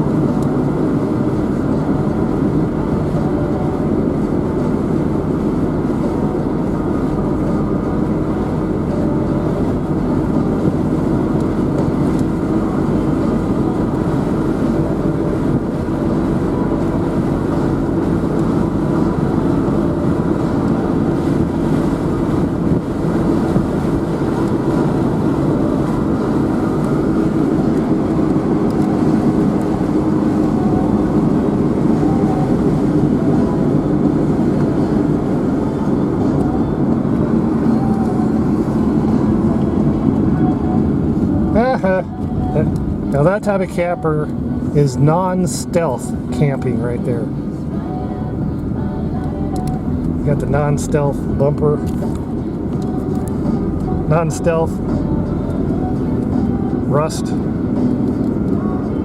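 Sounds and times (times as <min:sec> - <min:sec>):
vehicle engine and road drone: 0:00.0 - 0:59.0.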